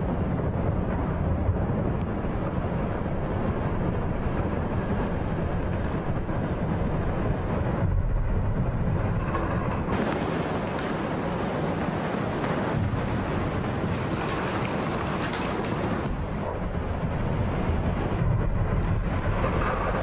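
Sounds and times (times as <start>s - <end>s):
snow pouring with rushing rumble: 0.0s - 20.0s.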